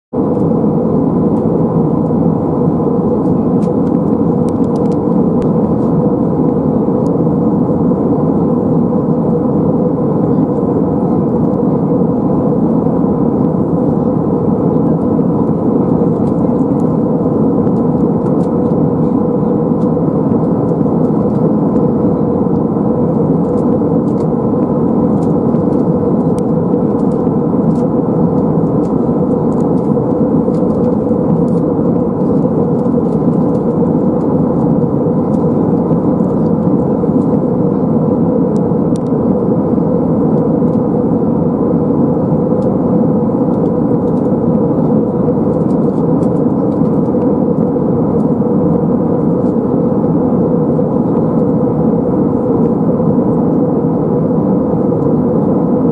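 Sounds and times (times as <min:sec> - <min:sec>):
airplane cabin drone: 0:00.0 - 0:55.9
faint steady hum: 0:00.2 - 0:55.9.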